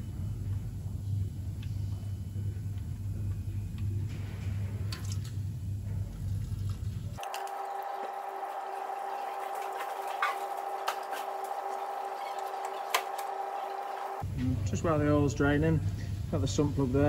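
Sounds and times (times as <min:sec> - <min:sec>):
steady two-tone hum: 0:00.0 - 0:17.0.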